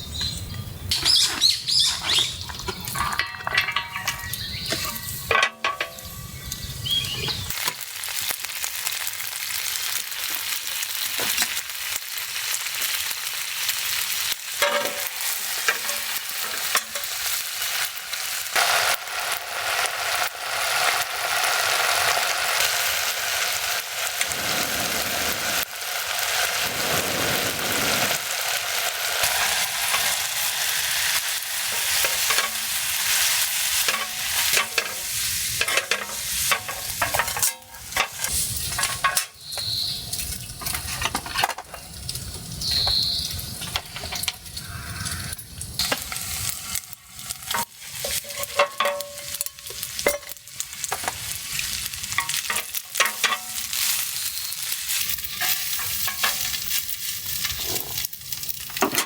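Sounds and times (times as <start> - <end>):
food sizzling in a pan: 1.1 - 5.3, 5.9 - 59.0.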